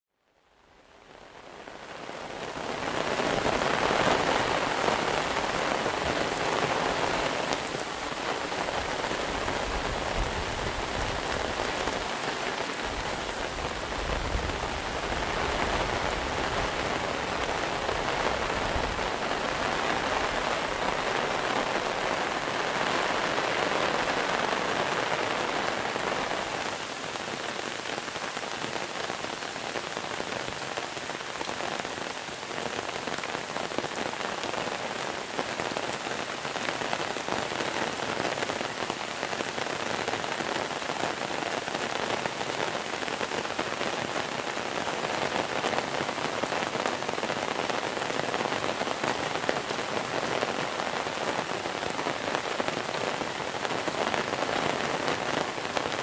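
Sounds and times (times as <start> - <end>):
heavy rain pouring: 0.8 - 56.0.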